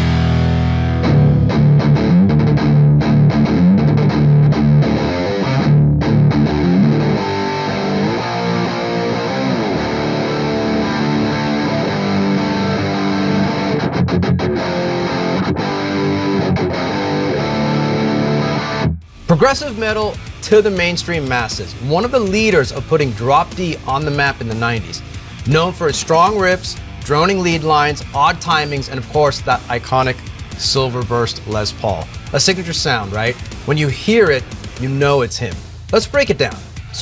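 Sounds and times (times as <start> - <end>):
distorted electric guitar riff: 0.0 - 37.0.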